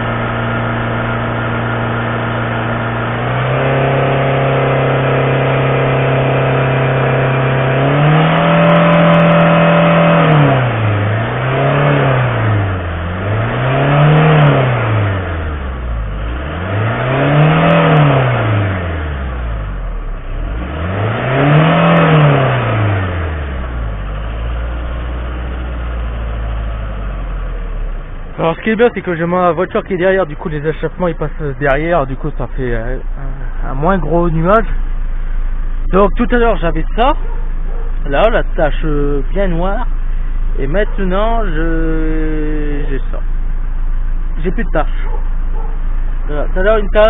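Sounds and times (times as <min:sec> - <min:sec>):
diesel engine revving: 0:00.0 - 0:47.0.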